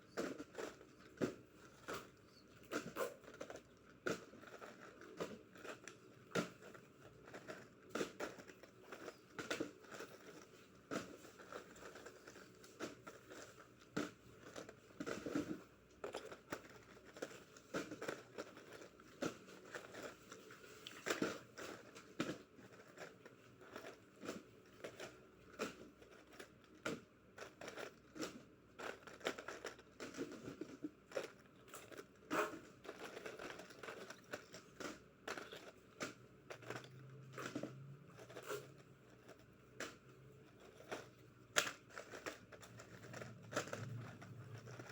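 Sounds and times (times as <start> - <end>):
plastic packaging crinkling: 0.1 - 44.9.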